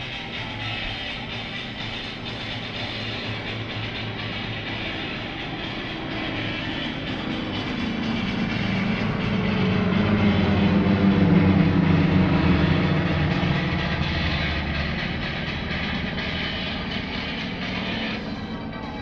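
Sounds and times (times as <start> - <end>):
propeller planes droning overhead: 0.0 - 19.0.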